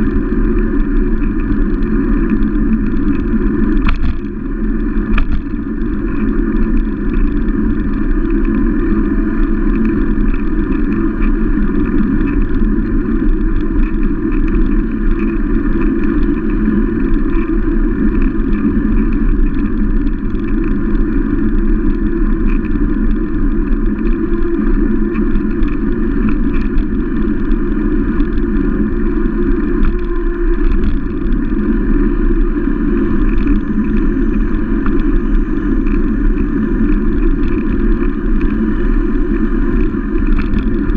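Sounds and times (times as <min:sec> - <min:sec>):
faint clicks and rattles: 0:00.0 - 0:40.9
wind rush on microphone: 0:00.0 - 0:40.9.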